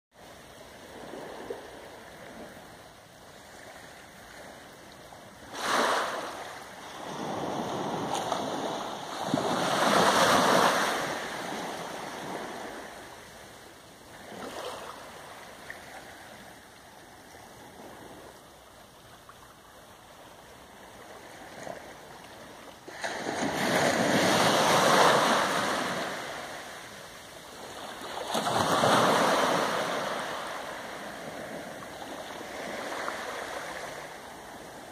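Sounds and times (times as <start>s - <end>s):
small waves lapping on shore: 0.2s - 34.9s.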